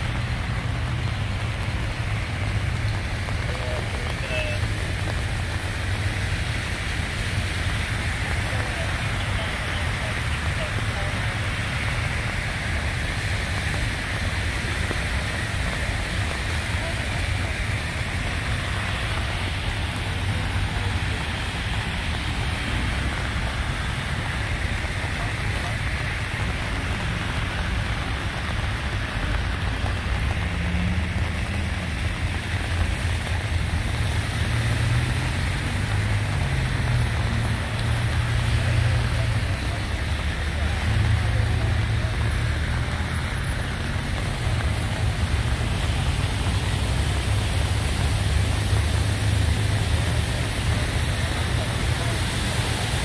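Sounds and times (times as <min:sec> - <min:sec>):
low traffic rumble: 0:00.0 - 0:53.0
rain falling on street: 0:00.0 - 0:53.0
vehicle engine: 0:00.0 - 0:53.0.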